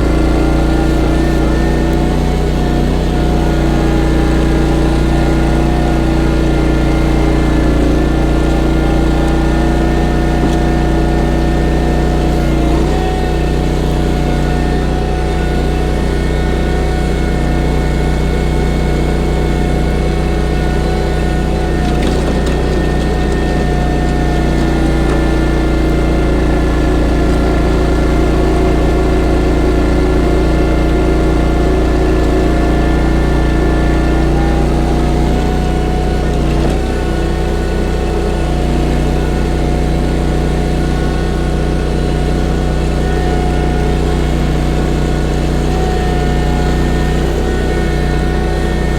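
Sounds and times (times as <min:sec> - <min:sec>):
engine running under load: 0:00.0 - 0:48.9
snowblower whine: 0:00.0 - 0:48.9.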